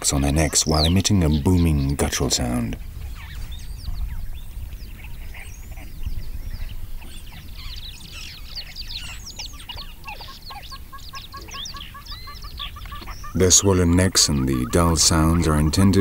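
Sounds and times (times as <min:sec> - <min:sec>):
birds chirping and whistling: 0:00.0 - 0:16.0.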